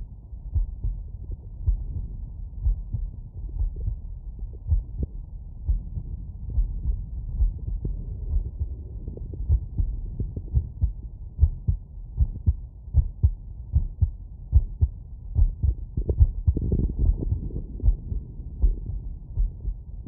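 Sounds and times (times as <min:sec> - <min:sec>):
heartbeat through stethoscope: 0:00.0 - 0:20.0.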